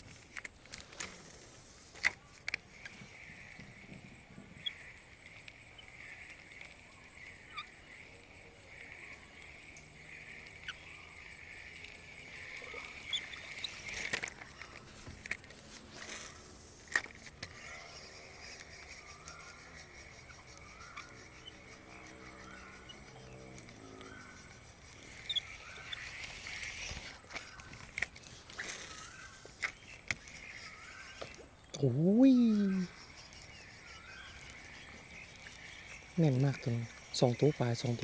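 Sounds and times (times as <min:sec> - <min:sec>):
pulsing chorus of nature: 0:00.0 - 0:38.0.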